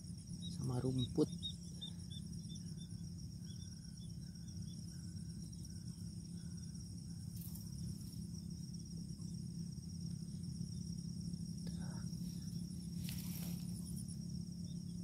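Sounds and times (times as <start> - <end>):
crickets trilling: 0.0 - 15.0
steady low hum: 0.0 - 15.0.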